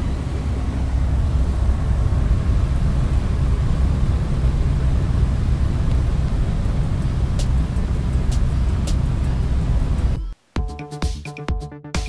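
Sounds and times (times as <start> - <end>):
fan blower whirring: 0.0 - 10.2.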